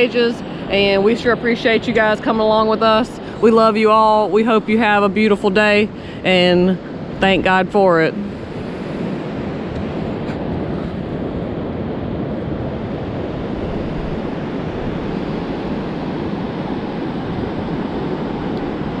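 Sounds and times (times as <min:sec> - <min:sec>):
ocean surf: 0:00.0 - 0:19.0
wind rumbling on microphone: 0:00.0 - 0:19.0.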